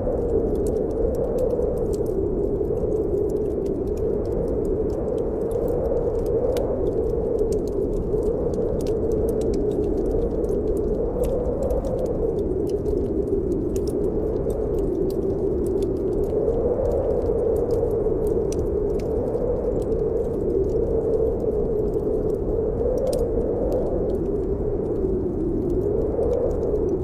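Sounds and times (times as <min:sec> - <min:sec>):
snowstorm wind blowing: 0:00.0 - 0:27.0
wood fire crackling: 0:00.0 - 0:27.0.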